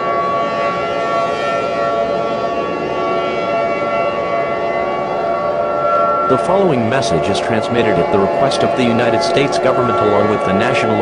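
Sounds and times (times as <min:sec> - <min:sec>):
civil defense siren wailing: 0:00.0 - 0:11.0.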